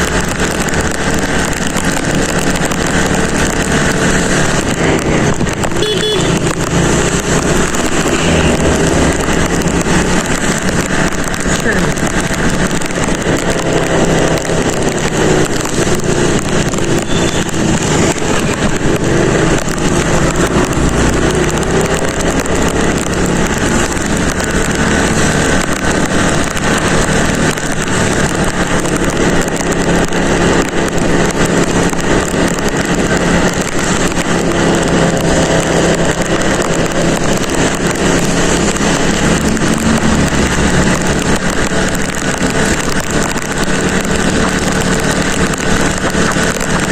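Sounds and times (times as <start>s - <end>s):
motorcycle engine running: 0.0s - 46.9s
wind and rain on microphone: 0.0s - 46.9s.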